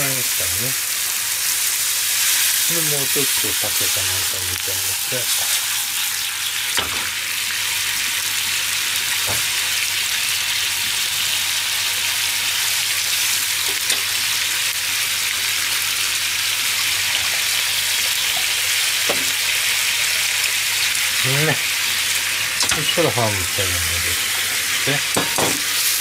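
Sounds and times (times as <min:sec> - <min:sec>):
sauce sizzling in a frying pan: 0:00.0 - 0:26.0.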